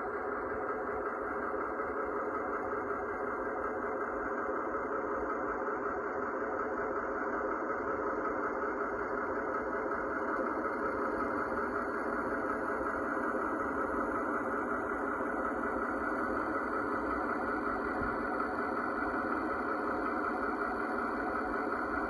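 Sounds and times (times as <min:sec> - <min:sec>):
diesel engine sound from small speaker: 0:00.0 - 0:22.0.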